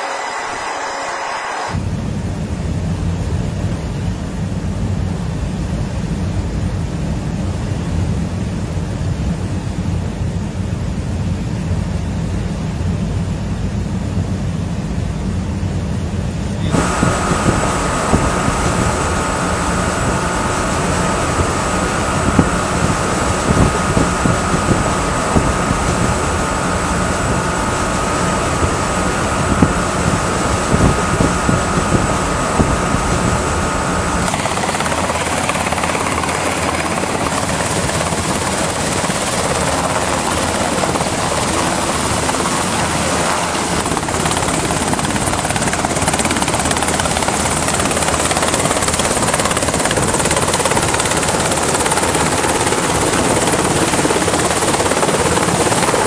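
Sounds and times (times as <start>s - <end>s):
helicopter high whine: 0.0s - 56.0s
helicopter rotor noise: 0.0s - 56.0s.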